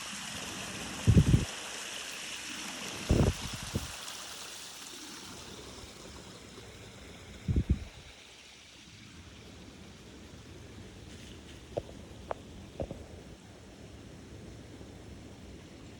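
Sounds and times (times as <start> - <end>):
water running and spilling: 0.0 - 15.9.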